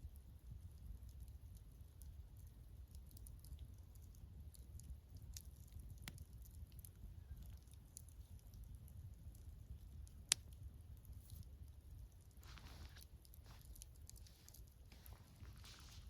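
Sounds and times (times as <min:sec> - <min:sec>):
campfire crackling and popping: 0:00.0 - 0:16.0
low steady rumble: 0:00.0 - 0:16.0.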